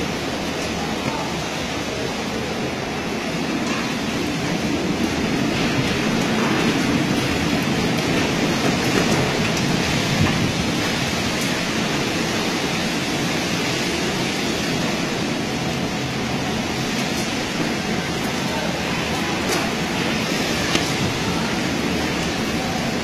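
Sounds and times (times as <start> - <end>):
heavy rain: 0.0 - 23.0
storm wind: 0.0 - 23.0.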